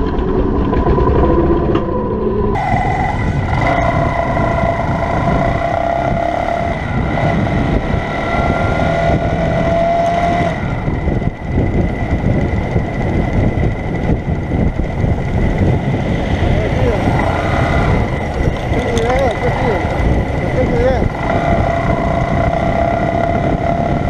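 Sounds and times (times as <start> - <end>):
heavy wind noise: 0.0 - 24.0
road noise: 0.0 - 24.0
motorcycle engine running: 2.6 - 24.0.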